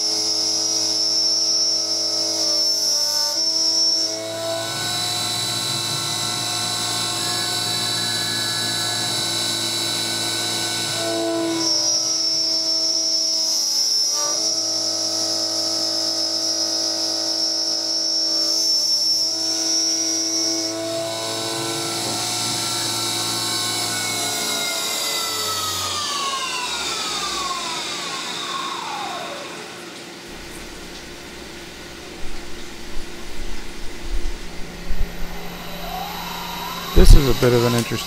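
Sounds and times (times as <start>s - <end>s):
spindle motor whining: 0.0s - 38.0s.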